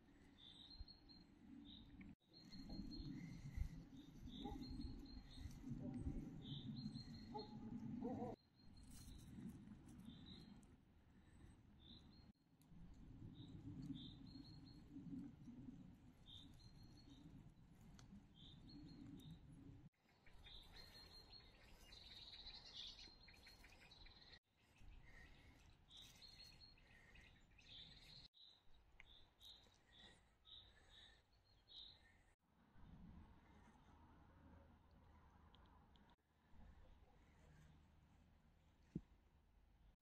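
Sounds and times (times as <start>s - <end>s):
songbirds chirping and trilling: 0.0s - 12.4s, 13.0s - 38.2s.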